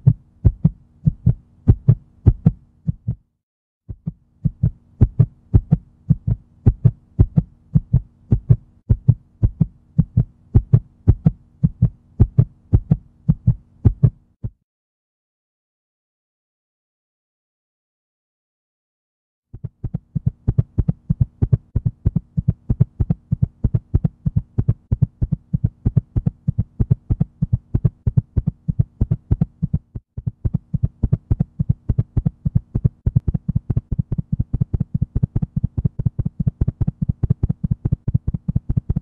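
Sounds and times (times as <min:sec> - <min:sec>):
steady low hum: 0:00.0 - 0:03.2, 0:03.9 - 0:14.3, 0:19.6 - 0:39.0
heartbeat thumps: 0:00.0 - 0:03.3, 0:03.9 - 0:14.6, 0:19.5 - 0:39.0.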